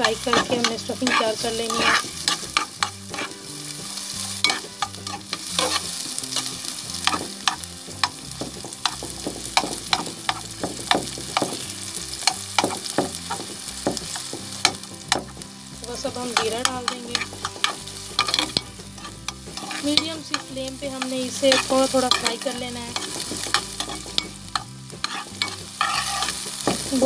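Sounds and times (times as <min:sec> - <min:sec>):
metal spoon scraping a pan: 0:00.0 - 0:15.4, 0:16.1 - 0:27.0
onions sizzling in oil: 0:00.0 - 0:27.0.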